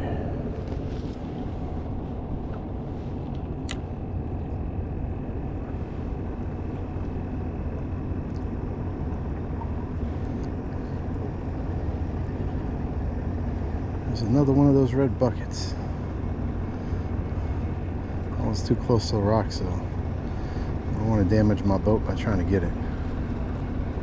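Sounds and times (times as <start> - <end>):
boat motor rumbling: 0.0 - 24.0.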